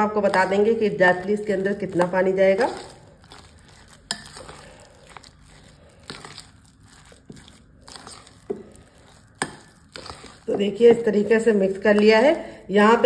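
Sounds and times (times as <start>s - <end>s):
wet batter stirring: 0.0s - 13.0s.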